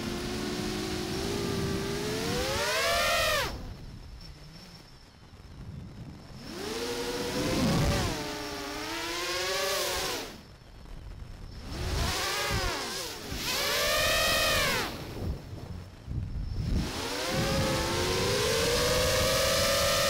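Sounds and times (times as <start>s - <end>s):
drone motors whining: 0.0s - 10.6s, 11.4s - 20.0s.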